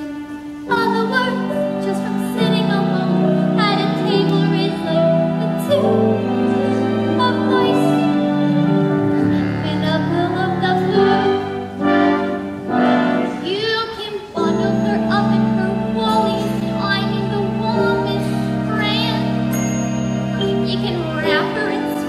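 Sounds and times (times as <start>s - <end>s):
woman singing show tune: 0.0s - 8.6s, 9.5s - 11.5s, 13.3s - 19.6s, 20.4s - 22.0s
instrumental accompaniment: 0.0s - 22.0s.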